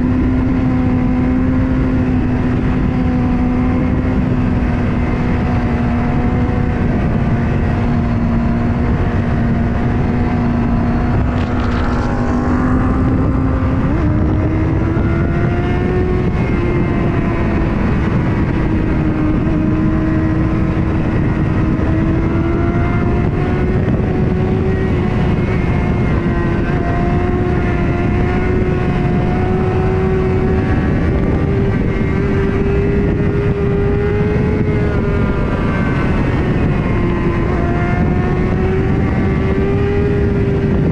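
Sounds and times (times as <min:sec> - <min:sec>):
motorcycle engine running at speed: 0:00.0 - 0:40.9
wind rush on microphone: 0:00.0 - 0:40.9.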